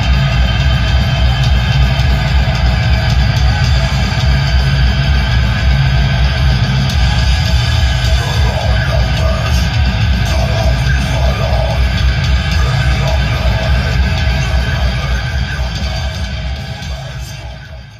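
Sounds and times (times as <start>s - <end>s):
heavy metal music: 0.0s - 17.9s.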